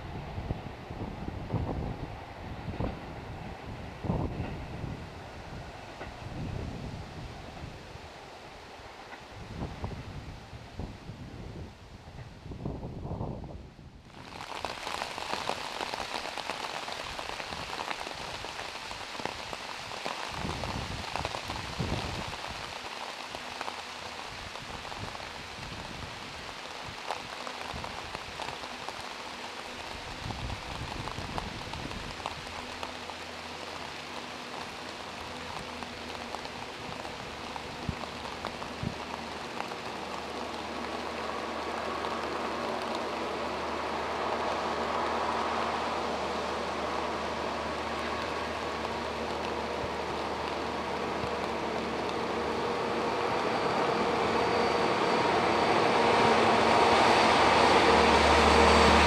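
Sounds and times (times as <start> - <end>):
diesel train engine hum: 0.0 - 59.0
rain pattering on surfaces: 0.0 - 59.0.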